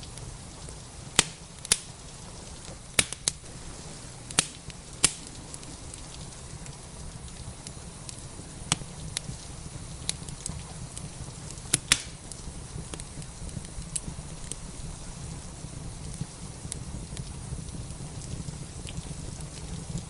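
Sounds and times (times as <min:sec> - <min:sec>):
rain hissing: 0:00.0 - 0:20.0
wood fire crackling: 0:00.0 - 0:20.0.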